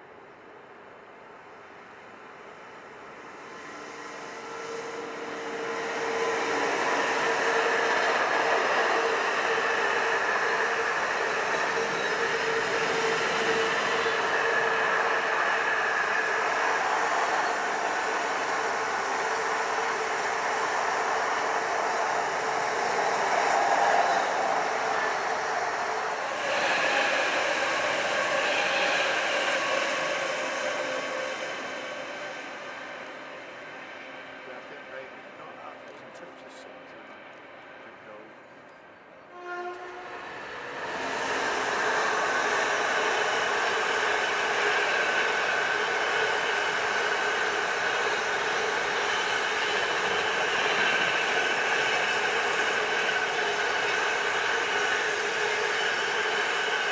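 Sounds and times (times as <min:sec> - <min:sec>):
electric train running by: 0:00.0 - 0:56.9
freight train rolling on rails: 0:00.0 - 0:56.9.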